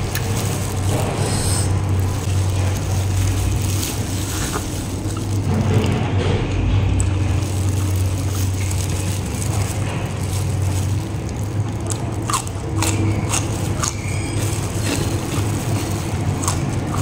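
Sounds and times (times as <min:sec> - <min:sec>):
crunchy chewing of vegetables: 0:00.0 - 0:17.0
steady low hum: 0:00.0 - 0:17.0.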